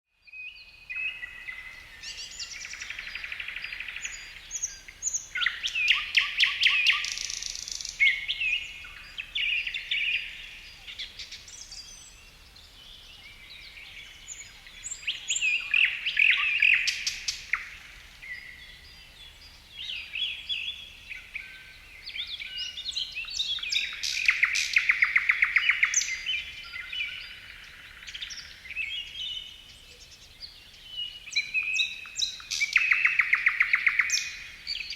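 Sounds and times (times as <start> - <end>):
songbirds singing: 0.2 - 34.9.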